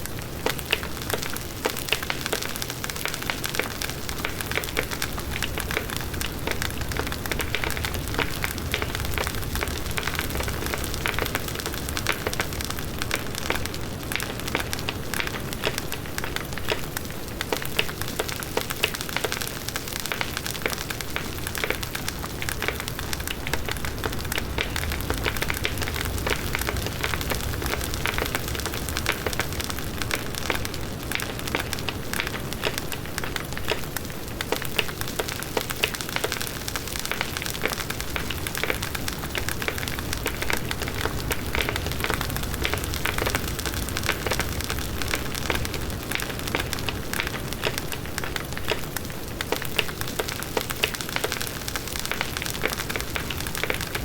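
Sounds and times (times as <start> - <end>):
burning wood crackling: 0.0 - 54.0
low rushing of flames: 2.9 - 18.8, 21.0 - 35.2, 37.2 - 51.3.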